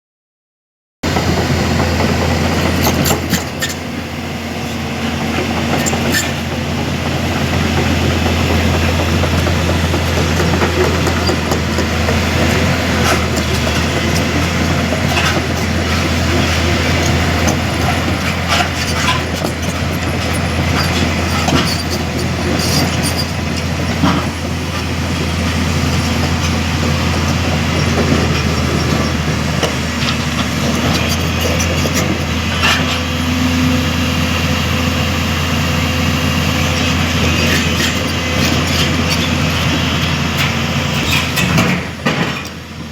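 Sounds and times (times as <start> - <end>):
diesel engine droning: 1.0 - 42.9.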